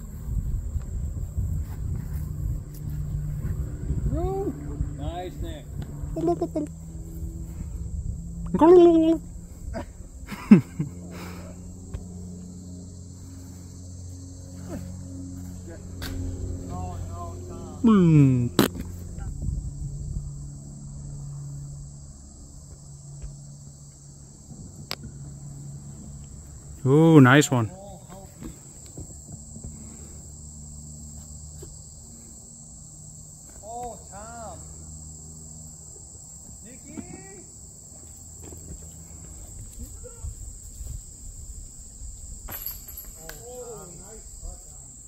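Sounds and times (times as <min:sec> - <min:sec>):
insects chirring: 0:00.0 - 0:45.0
low steady hum: 0:00.0 - 0:45.0.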